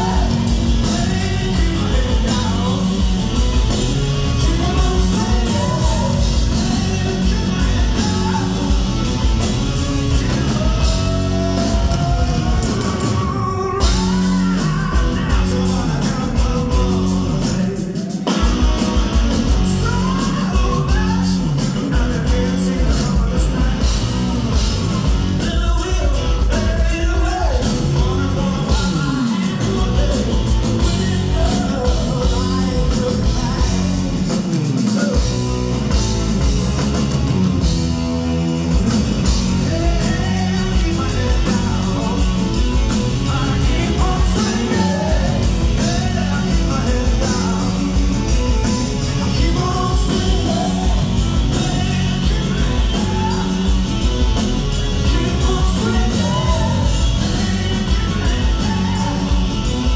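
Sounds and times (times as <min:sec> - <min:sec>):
man singing: 0:00.0 - 0:35.8, 0:39.2 - 0:59.9
drums: 0:00.0 - 0:59.9
electric guitar: 0:00.0 - 0:59.9.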